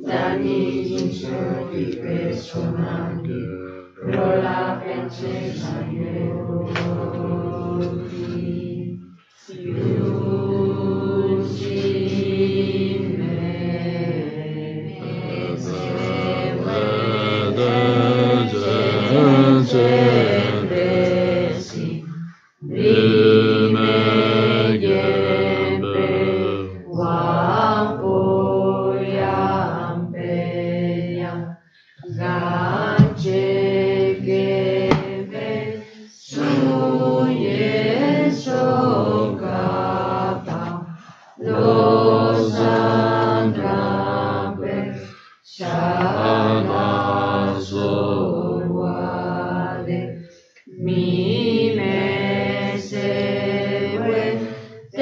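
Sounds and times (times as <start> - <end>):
voices chanting a prayer: 0.0 - 55.0.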